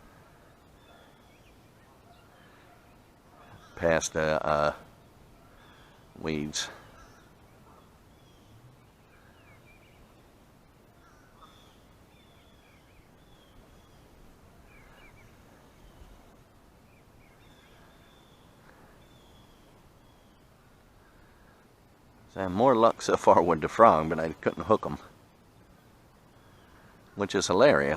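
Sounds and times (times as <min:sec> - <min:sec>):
background hiss: 0:00.0 - 0:27.9
bird chirping: 0:00.3 - 0:21.6, 0:22.3 - 0:27.9.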